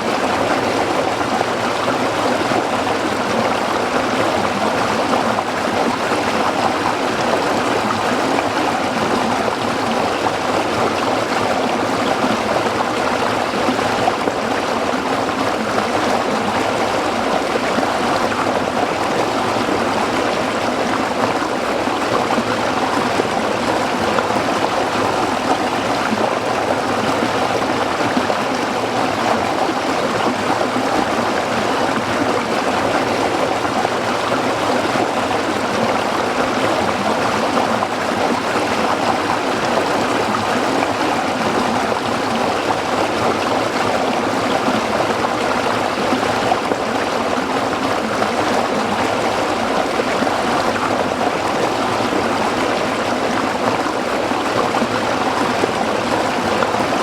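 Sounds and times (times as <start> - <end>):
stream water babbling over rocks: 0.0 - 57.0.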